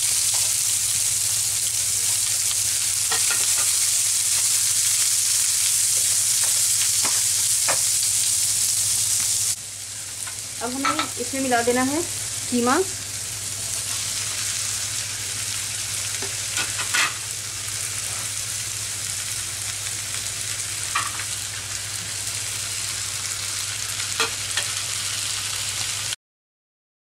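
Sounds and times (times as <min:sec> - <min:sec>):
vegetables sizzling in oil: 0:00.0 - 0:26.2.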